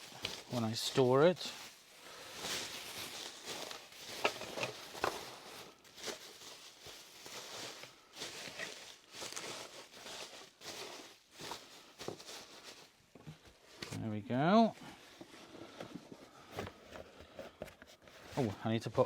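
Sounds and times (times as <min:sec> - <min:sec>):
bubble wrap rustling and crinkling: 0:00.0 - 0:16.6.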